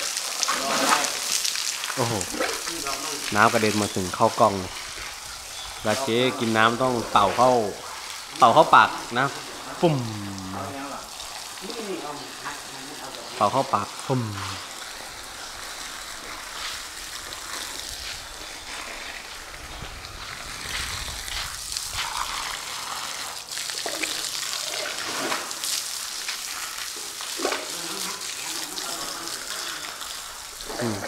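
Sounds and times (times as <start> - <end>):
water spraying from a hose: 0.0 - 31.0.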